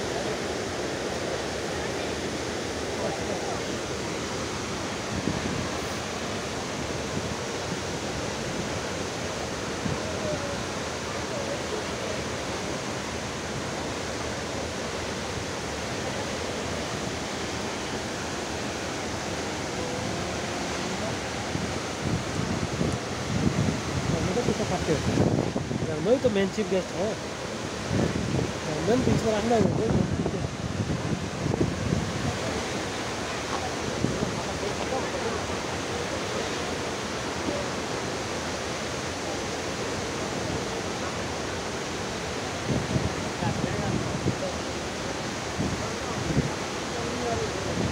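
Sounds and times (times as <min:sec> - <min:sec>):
waterfall rushing onto rock: 0:00.0 - 0:47.9.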